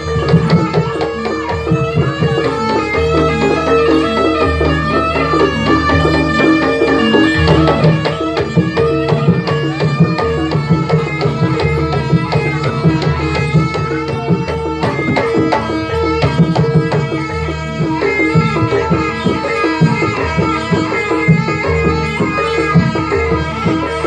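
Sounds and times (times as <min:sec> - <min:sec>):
hand drums beating: 0:00.0 - 0:24.0
sustained pitched instrument tones: 0:00.0 - 0:24.0.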